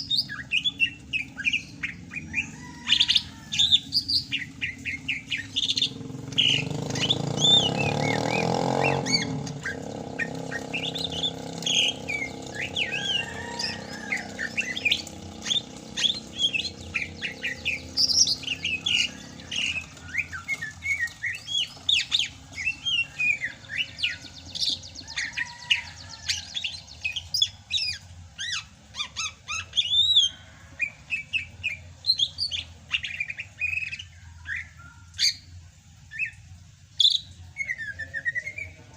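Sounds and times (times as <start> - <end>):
bird singing chirps and whistles: 0.0 - 35.5, 36.1 - 36.4, 37.0 - 38.9.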